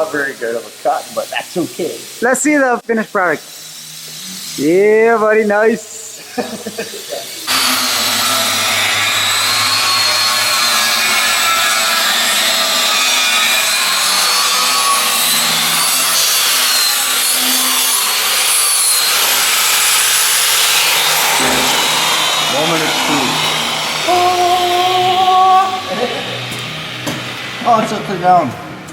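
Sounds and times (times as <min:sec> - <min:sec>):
angle grinder cutting steel: 0:00.0 - 0:28.9.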